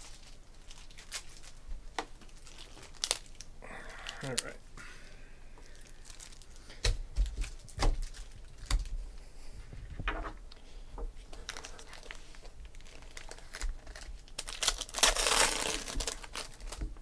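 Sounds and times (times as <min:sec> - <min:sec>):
foil wrappers crinkling: 0:00.0 - 0:04.5, 0:05.6 - 0:09.3, 0:11.2 - 0:17.0.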